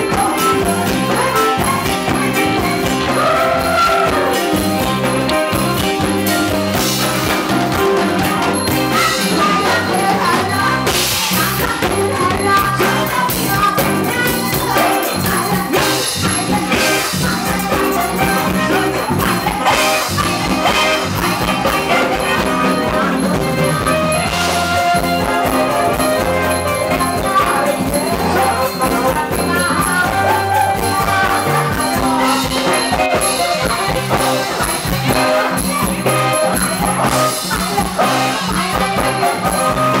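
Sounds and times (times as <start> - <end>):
live band playing dance music: 0.0 - 40.0
person singing: 0.0 - 40.0.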